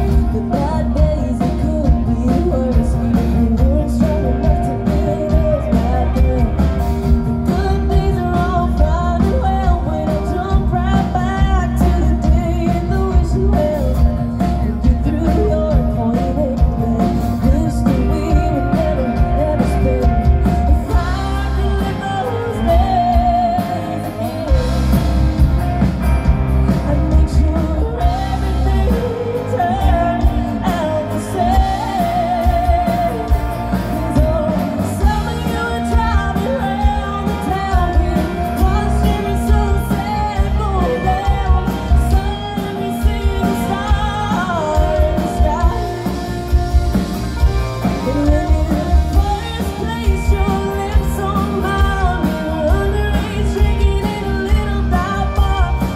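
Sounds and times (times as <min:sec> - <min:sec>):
live rock band playing: 0:00.0 - 0:55.9
woman singing: 0:00.0 - 0:55.9.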